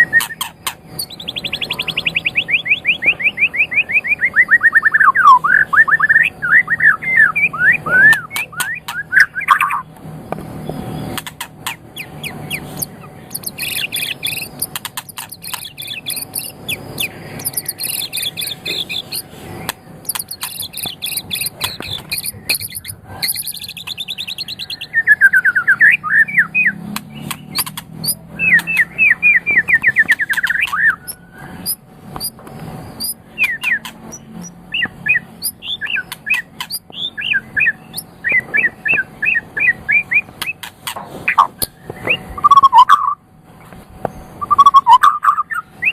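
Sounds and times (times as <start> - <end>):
songbird singing varied song: 0.0 - 40.7, 41.3 - 43.2, 44.0 - 45.9.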